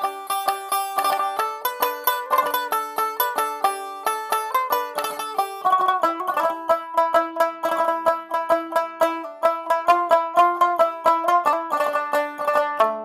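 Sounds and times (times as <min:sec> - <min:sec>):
plucked string melody: 0:00.0 - 0:13.0.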